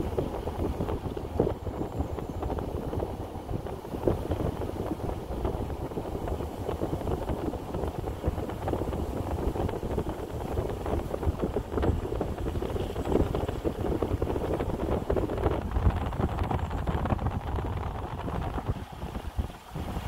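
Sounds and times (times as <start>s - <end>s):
moving car rumble: 0.0s - 20.0s
wind buffeting microphone: 0.0s - 20.0s.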